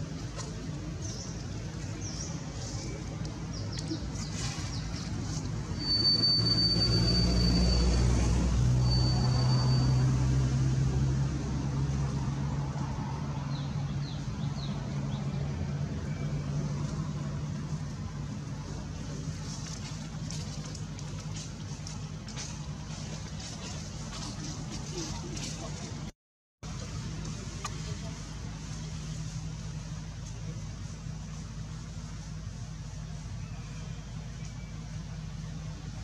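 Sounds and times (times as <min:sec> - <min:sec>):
vehicle engine rumble: 0:00.0 - 0:36.0.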